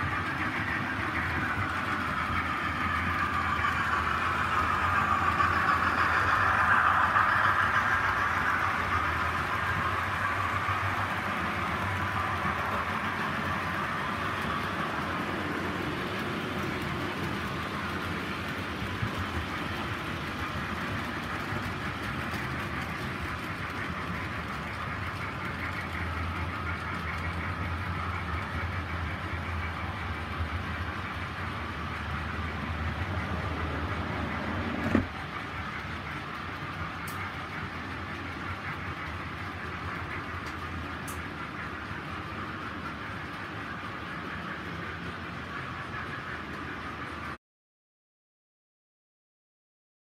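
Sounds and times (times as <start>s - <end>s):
model train wheels rumbling: 0.0s - 47.4s.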